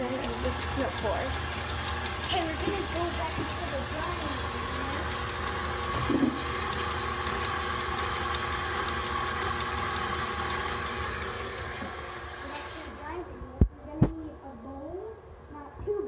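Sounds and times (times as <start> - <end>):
electric mixer running: 0.0 - 13.2.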